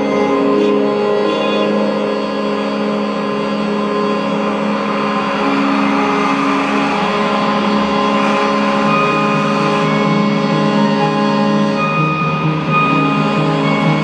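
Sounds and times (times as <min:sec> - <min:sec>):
droning music of held tones: 0:00.0 - 0:14.0.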